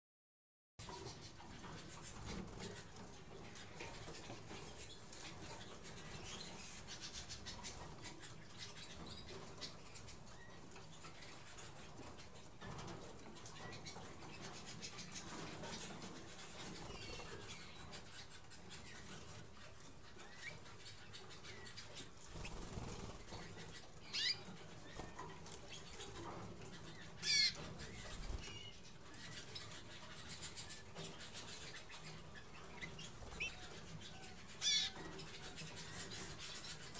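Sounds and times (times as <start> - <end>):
canaries chirping: 0.8 - 36.9
wings fluttering: 0.8 - 36.9.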